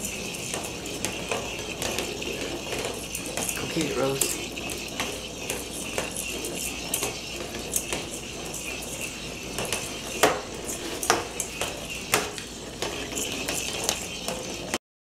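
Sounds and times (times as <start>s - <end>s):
plastic ball clacking on tile: 0.0s - 14.8s
toy motor whirring: 0.0s - 14.8s.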